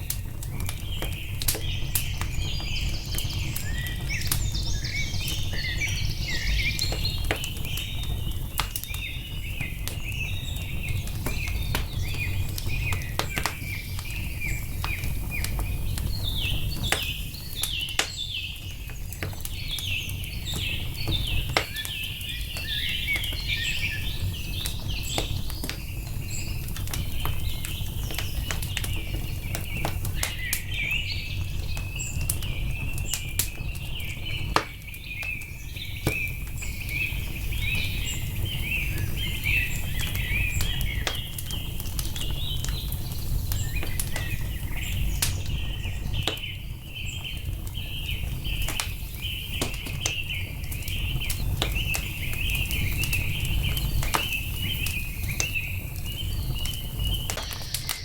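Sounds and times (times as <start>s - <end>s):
birds chirping: 0.0s - 58.0s
wood fire crackling: 0.0s - 58.0s.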